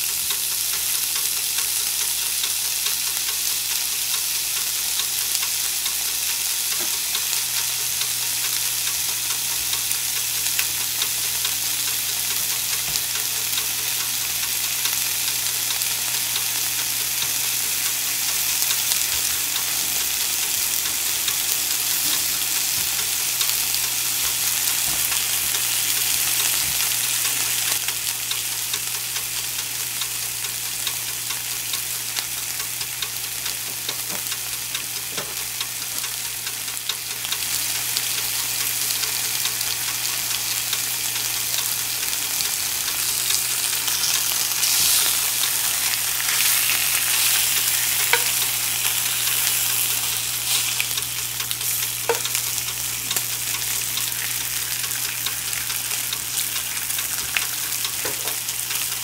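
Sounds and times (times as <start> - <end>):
bacon sizzling in skillet: 0.0 - 59.0.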